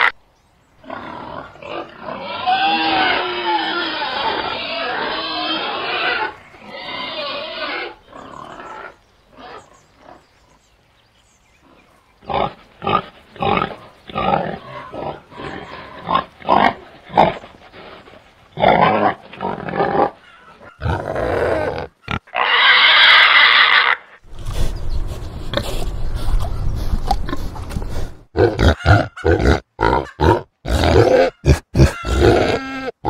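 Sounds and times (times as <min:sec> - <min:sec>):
pigs grunting and squealing: 0:00.8 - 0:10.2, 0:11.6 - 0:24.2, 0:28.3 - 0:33.0.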